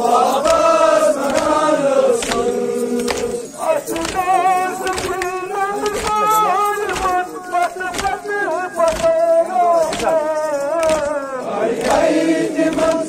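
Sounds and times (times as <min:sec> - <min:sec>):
group singing: 0:00.0 - 0:13.0.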